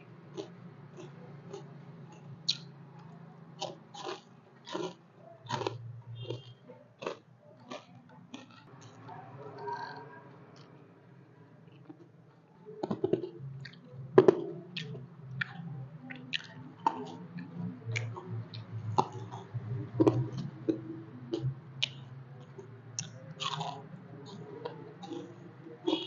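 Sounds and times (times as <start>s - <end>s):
chewing with mouth clicks: 0.3s - 10.9s, 11.7s - 26.0s.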